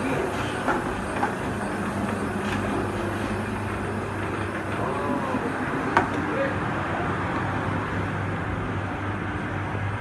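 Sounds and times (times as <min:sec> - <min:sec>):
kitchen machinery droning: 0:00.0 - 0:10.0.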